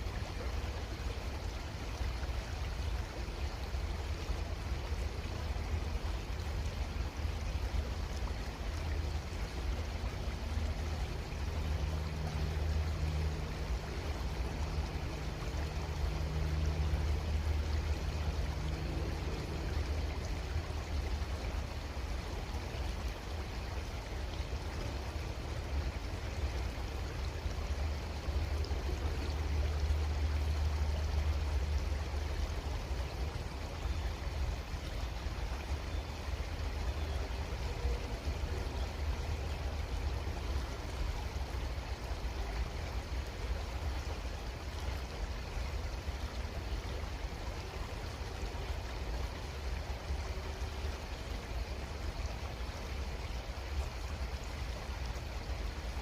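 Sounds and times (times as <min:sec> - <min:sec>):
creek water running: 0:00.0 - 0:56.0.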